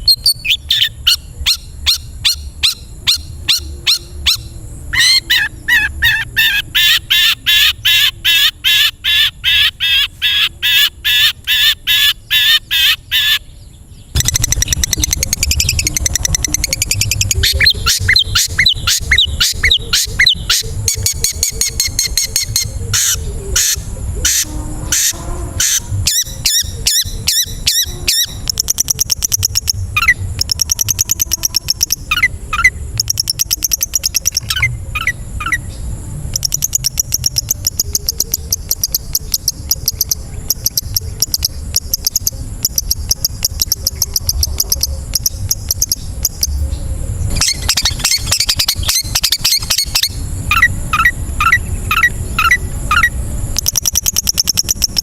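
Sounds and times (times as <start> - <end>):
bird singing fast chirps and trills: 0.0 - 55.0.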